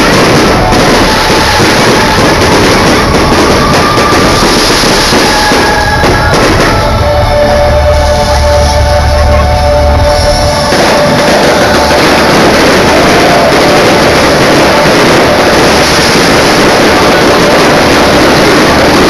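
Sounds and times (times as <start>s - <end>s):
fireworks banging and crackling: 0.0s - 19.0s
music over loudspeakers: 0.0s - 19.0s.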